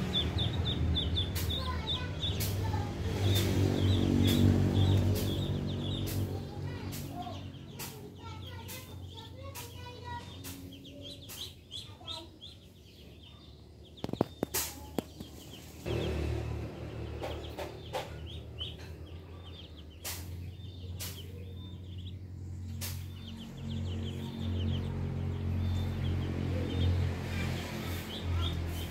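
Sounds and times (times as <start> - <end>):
low rumble: 0.0 - 11.9, 15.2 - 28.9
ducklings peeping: 0.0 - 28.9.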